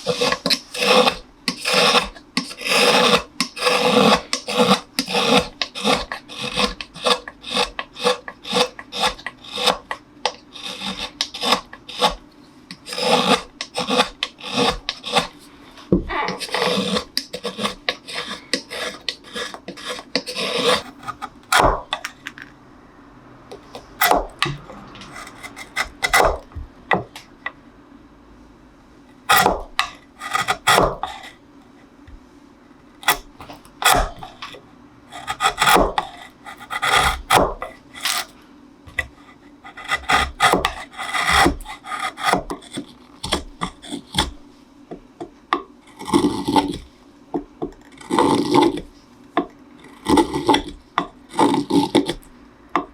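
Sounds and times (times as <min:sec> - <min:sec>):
hand tools scraping wood: 0:00.0 - 0:22.4, 0:23.5 - 0:27.2, 0:29.2 - 0:31.4, 0:33.0 - 0:44.4, 0:45.9 - 0:46.9, 0:47.7 - 0:49.0, 0:49.8 - 0:52.2.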